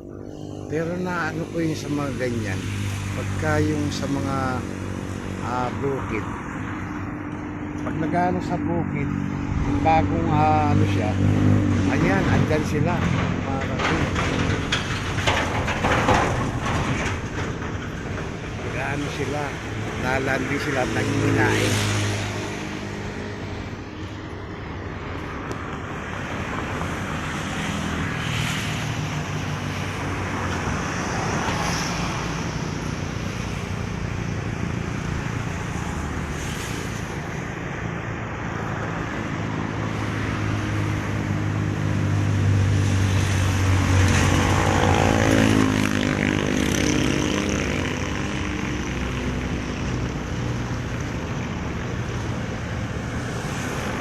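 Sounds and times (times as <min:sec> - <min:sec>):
passing motor vehicles: 0:00.0 - 0:54.0.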